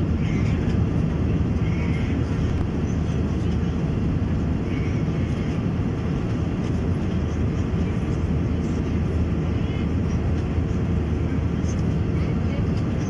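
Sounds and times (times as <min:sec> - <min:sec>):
aircraft cabin drone: 0:00.0 - 0:13.0.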